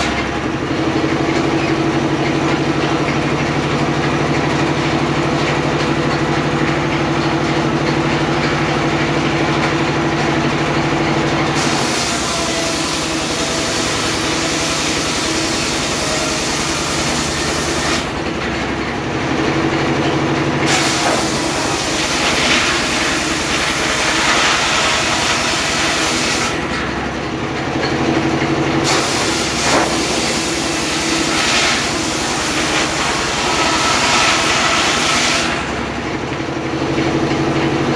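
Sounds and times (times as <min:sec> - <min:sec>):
circular saw cutting wood: 0:00.0 - 0:27.2, 0:28.2 - 0:37.3
sawmill machine humming: 0:00.0 - 0:37.9.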